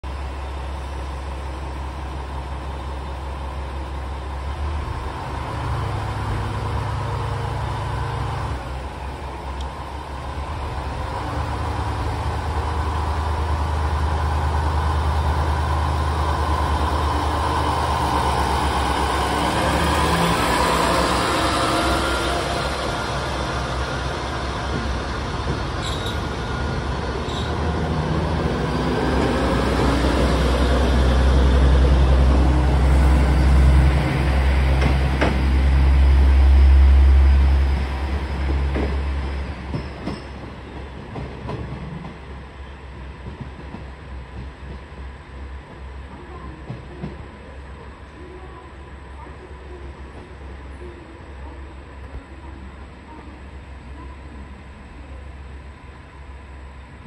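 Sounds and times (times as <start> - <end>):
diesel railcar engine humming: 0.0 - 57.0.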